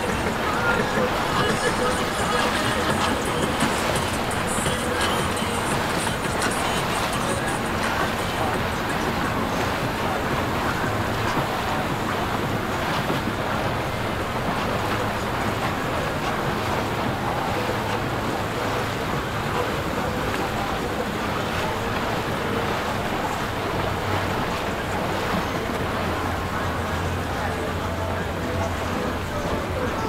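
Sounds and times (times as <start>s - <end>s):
boat motors humming: 0.0s - 30.0s
water rushing: 0.0s - 30.0s
wind noise on microphone: 0.0s - 30.0s.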